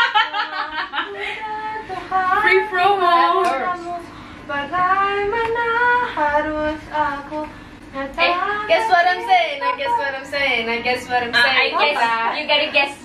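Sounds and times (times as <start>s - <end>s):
woman singing: 1.0s - 12.2s.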